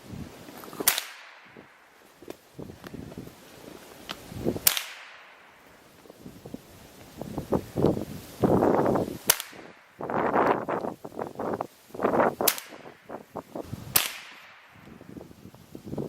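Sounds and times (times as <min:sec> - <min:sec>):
rough rustling noise: 0:00.0 - 0:16.0.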